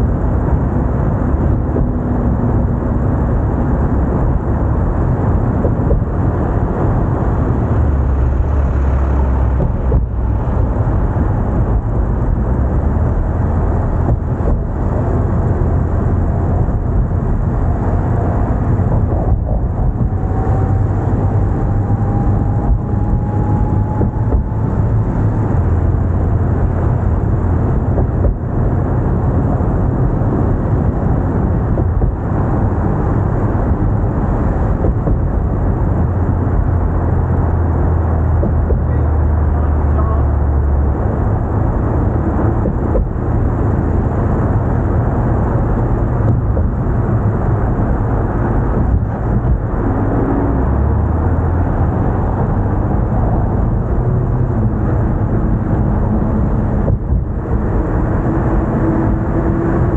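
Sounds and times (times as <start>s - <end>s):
road and wind rumble: 0.0s - 59.9s
faint rising whine: 0.8s - 59.9s.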